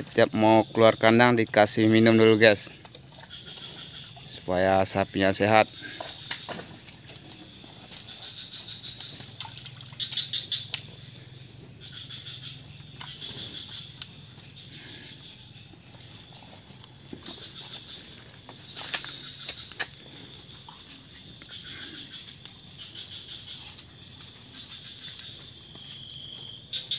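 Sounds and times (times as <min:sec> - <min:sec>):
high insect buzz: 0:00.0 - 0:26.9
cattle slurping water: 0:01.8 - 0:26.4.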